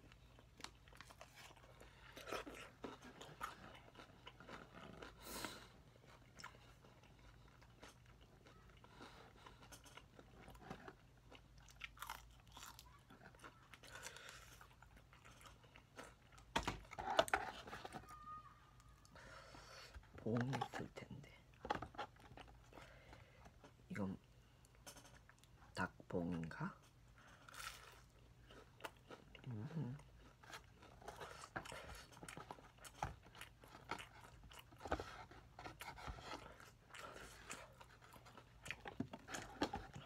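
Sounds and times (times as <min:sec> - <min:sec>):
chewing crispy fried chicken: 0:00.0 - 0:40.0.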